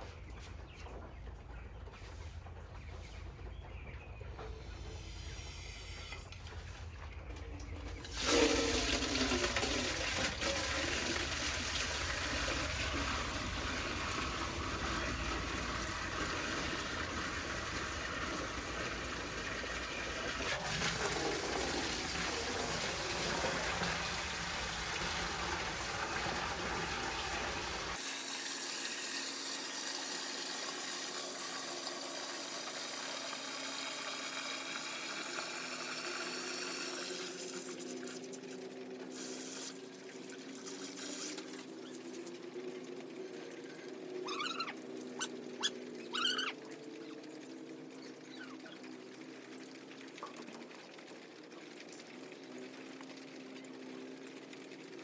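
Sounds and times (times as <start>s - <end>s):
water running and splashing: 7.7s - 55.0s.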